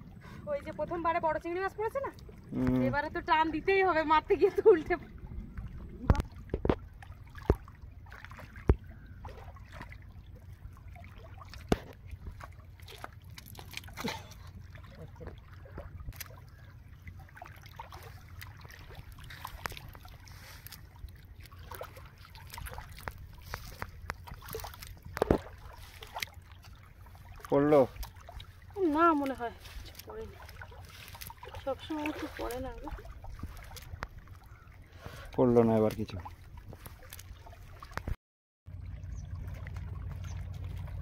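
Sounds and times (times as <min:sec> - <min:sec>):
water sloshing and trickling: 0:00.0 - 0:41.0.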